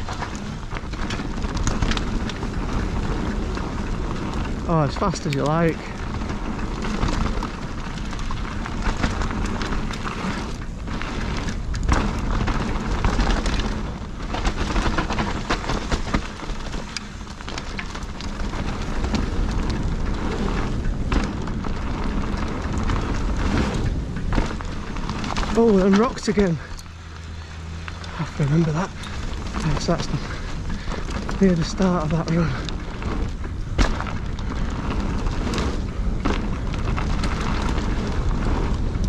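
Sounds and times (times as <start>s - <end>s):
bike tyres rolling over gravel: 0.0s - 39.0s
rocks knocking under wheels: 0.0s - 39.0s.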